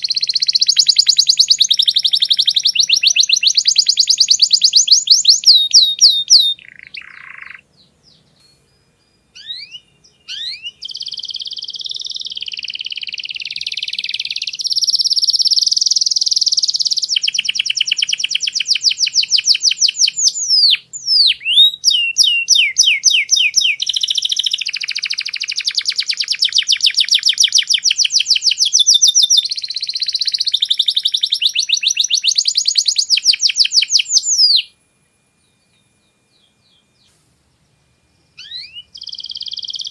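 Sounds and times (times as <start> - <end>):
canary singing trills and chirps: 0.0 - 34.8, 38.4 - 39.9.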